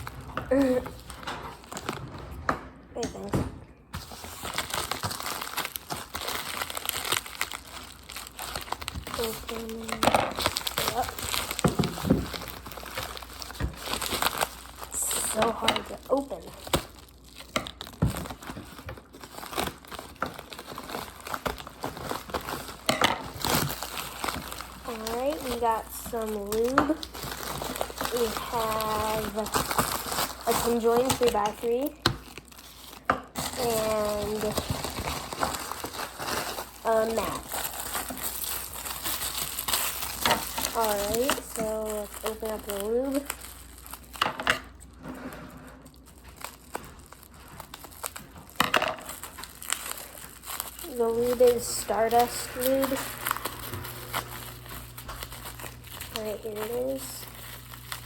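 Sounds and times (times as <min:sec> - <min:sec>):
packaging crinkling: 0:00.0 - 0:02.5, 0:03.2 - 0:58.0.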